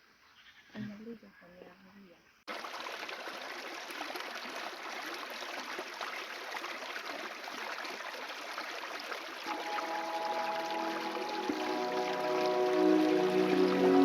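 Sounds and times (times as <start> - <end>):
river water splashing: 2.5 - 14.0.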